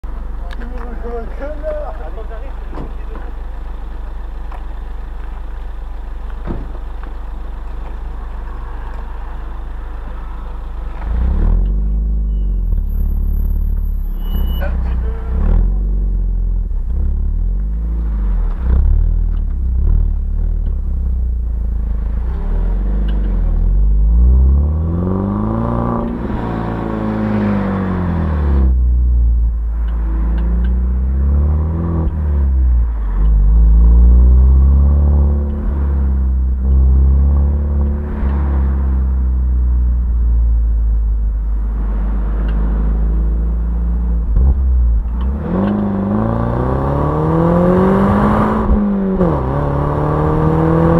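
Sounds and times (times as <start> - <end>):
car engine revving: 6.2 - 50.9.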